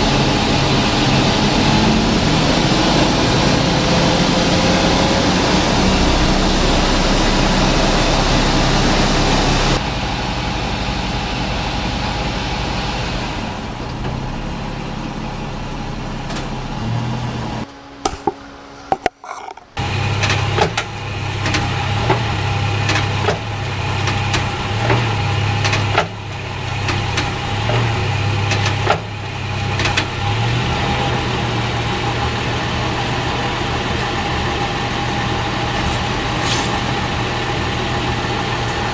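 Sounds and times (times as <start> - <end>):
engine and driveshaft drone: 0.0 - 38.9.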